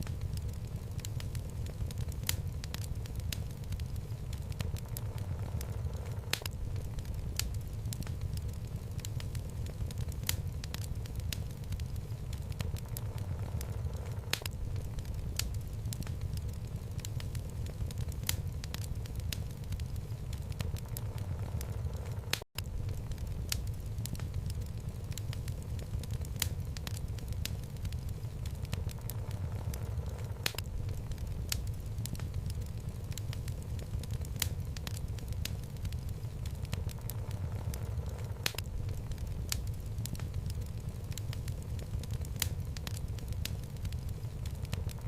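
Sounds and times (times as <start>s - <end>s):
fire rumbling: 0.0s - 45.0s
logs crackling and popping: 0.0s - 45.0s.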